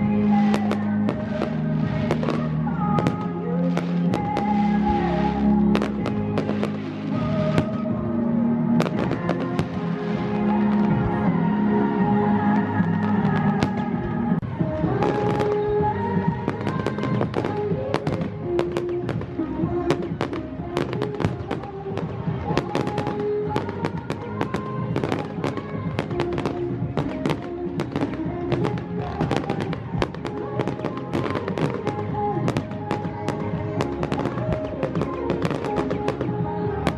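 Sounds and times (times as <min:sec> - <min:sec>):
fireworks bangs and crackles: 0:00.0 - 0:08.0, 0:08.7 - 0:11.3, 0:12.6 - 0:36.9
music with held notes: 0:00.0 - 0:36.9.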